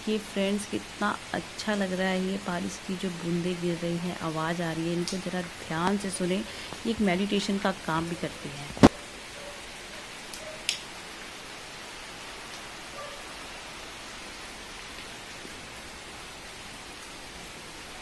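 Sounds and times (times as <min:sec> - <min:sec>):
rain hissing on roofs: 0:00.0 - 0:18.0.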